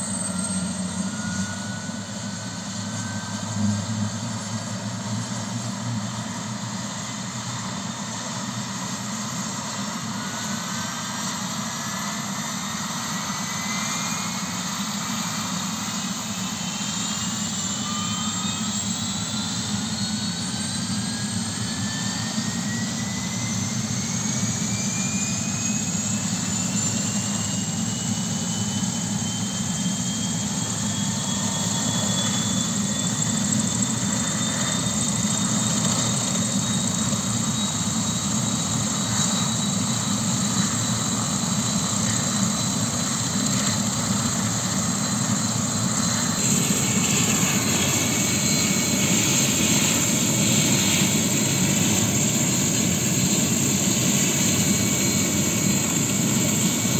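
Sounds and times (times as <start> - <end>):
helicopter engine and rotor noise: 0.0 - 56.9
helicopter turbine whine: 0.0 - 56.9.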